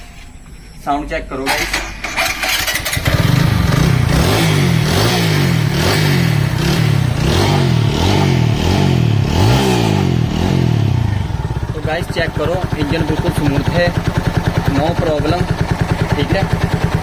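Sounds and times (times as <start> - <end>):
motorcycle engine revving: 1.5 - 17.0.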